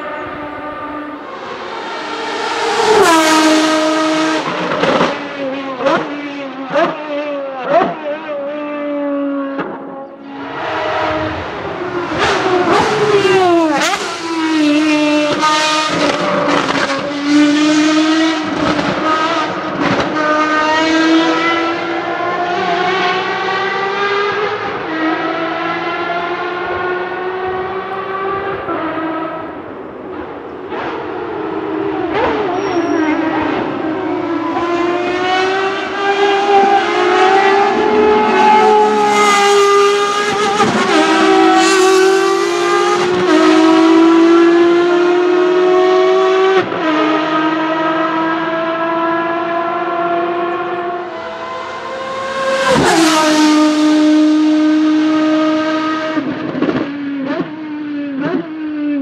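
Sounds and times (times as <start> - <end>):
racing car engine at full throttle: 0.0 - 59.0.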